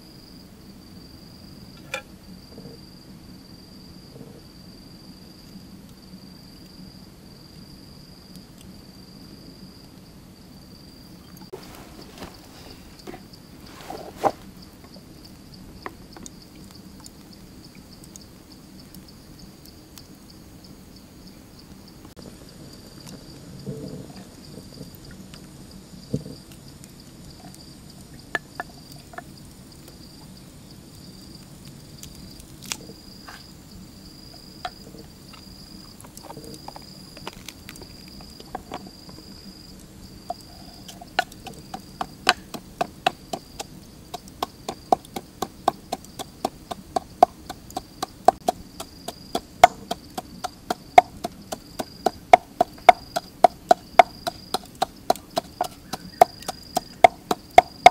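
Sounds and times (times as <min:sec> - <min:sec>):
faint insect chirp: 0:00.0 - 0:57.9.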